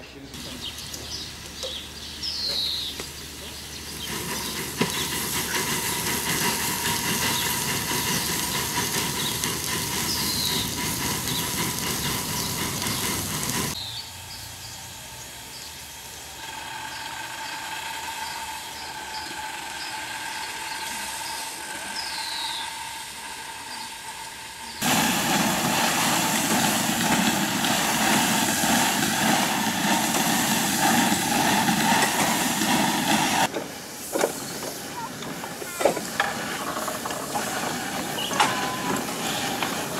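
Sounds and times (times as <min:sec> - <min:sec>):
steam locomotive hissing: 0:00.3 - 0:39.9.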